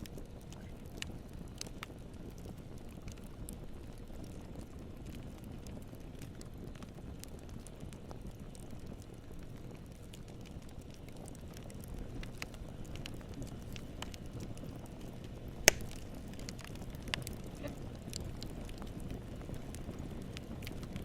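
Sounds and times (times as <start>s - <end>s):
campfire flames rushing: 0.0s - 21.0s
wood crackling and popping: 0.0s - 21.0s.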